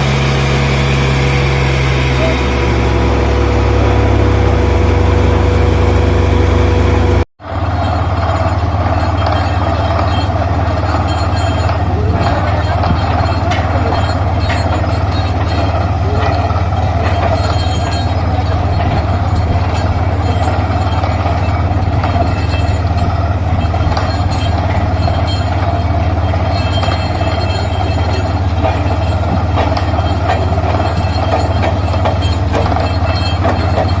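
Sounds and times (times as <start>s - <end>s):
drilling rig droning: 0.0s - 34.0s.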